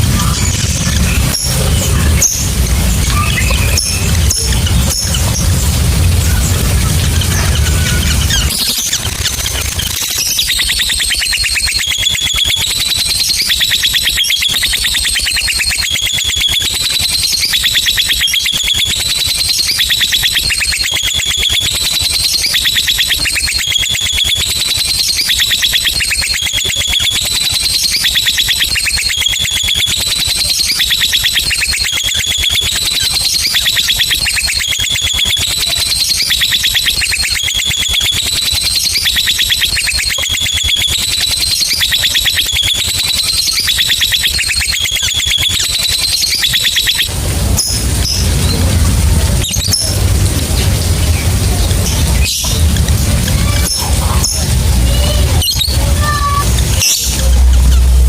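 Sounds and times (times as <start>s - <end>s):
lovebird trilling chatter: 0.0s - 58.0s.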